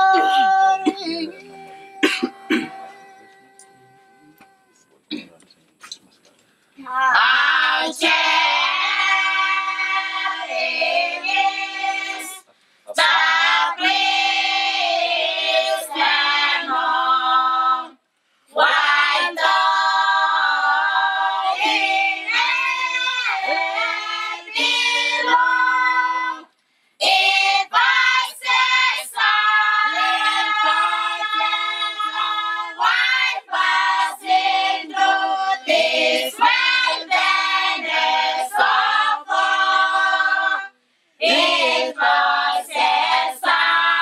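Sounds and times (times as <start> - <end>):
children and women singing a carol: 0.0 - 4.5, 6.8 - 44.0.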